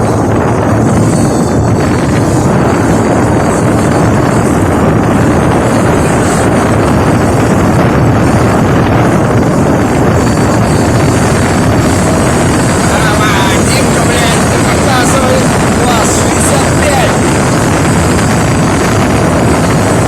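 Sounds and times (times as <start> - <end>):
motorboat engine and hull noise: 0.0 - 20.0
wind buffeting microphone: 0.0 - 20.0.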